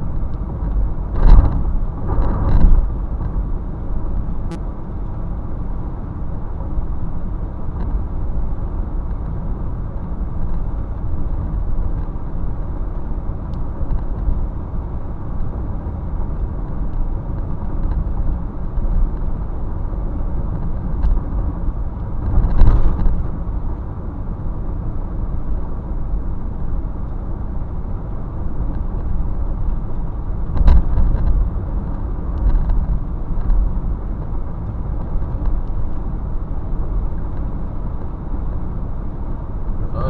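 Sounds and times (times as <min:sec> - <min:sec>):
low vehicle rumble: 0:00.0 - 0:40.0.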